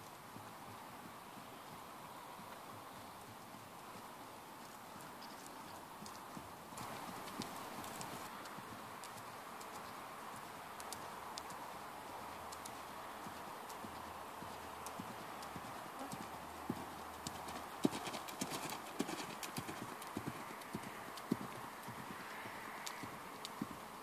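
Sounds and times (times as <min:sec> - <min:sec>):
horse trotting on sand: 0:00.0 - 0:24.0.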